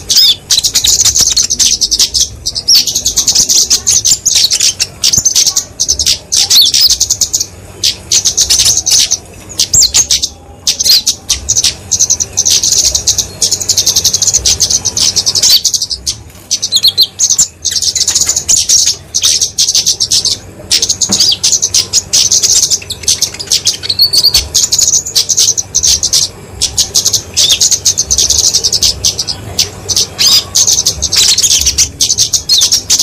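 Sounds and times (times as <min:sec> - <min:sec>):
bird chips and twittering trills: 0:00.0 - 0:33.0.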